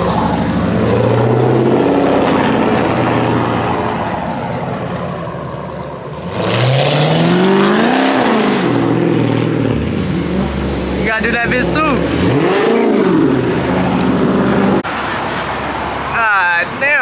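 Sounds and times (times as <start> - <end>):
car engine running and revving: 0.0 - 15.0.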